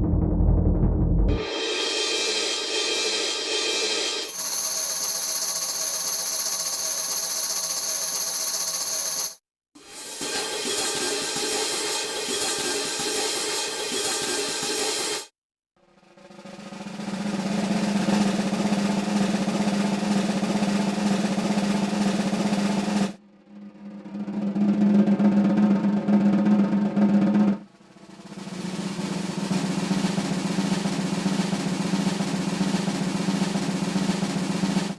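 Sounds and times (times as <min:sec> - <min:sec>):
drum rolls: 0:00.0 - 0:04.3, 0:09.8 - 0:15.3, 0:16.0 - 0:34.9.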